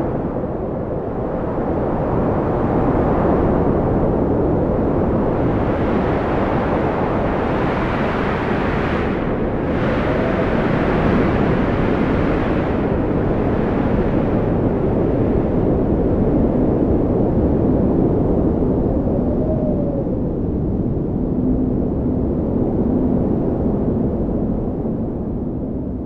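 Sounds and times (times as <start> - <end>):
faint wind whistling: 0.0 - 26.0
strong wind blowing: 0.0 - 26.0.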